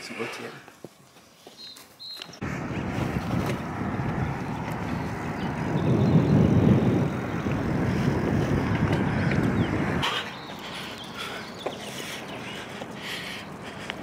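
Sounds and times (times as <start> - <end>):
wind buffeting microphone: 2.4 - 14.0.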